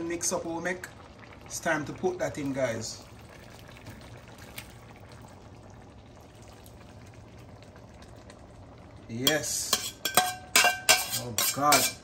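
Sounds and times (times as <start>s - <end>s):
pot simmering and bubbling: 0.0s - 12.0s.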